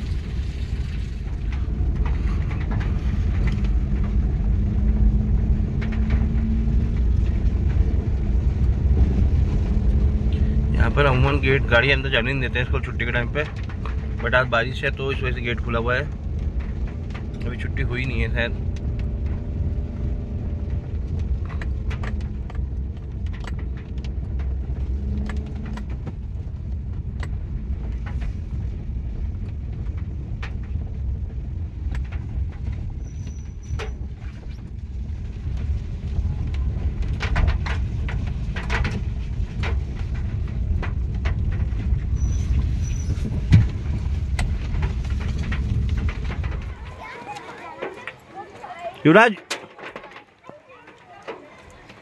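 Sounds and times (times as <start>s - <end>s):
car engine and road rumble: 0.0s - 52.0s
raindrops ticking on windshield: 0.0s - 52.0s.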